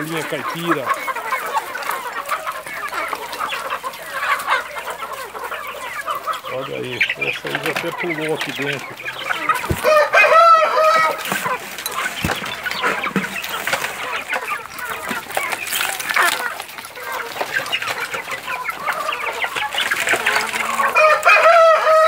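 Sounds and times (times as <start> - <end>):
chickens clucking: 0.0 - 22.0
loud drawn-out chicken call: 0.0 - 22.0.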